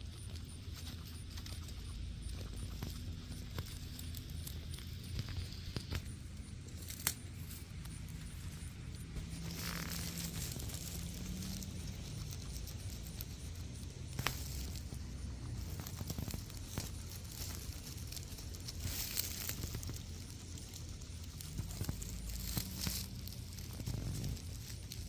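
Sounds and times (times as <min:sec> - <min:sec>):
guinea pigs chewing grass: 0:00.0 - 0:25.0
steady low hum: 0:00.0 - 0:25.0.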